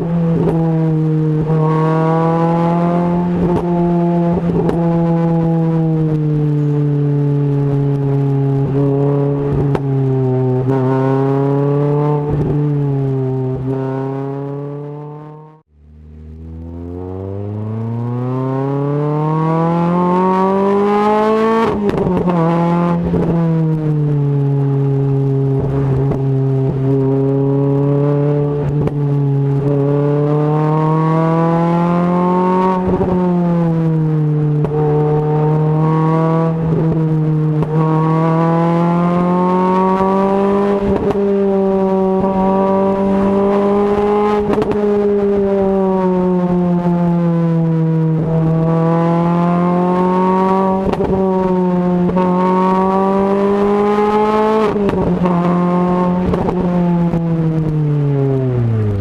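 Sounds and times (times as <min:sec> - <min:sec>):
car engine and exhaust accelerating: 0:00.0 - 0:59.0.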